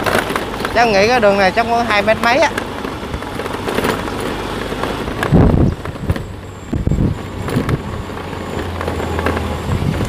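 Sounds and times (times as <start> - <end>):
low wind buffets: 0.0 - 10.0
motorbike running at low speed: 0.0 - 10.0
wind rumbling on microphone: 0.0 - 10.0.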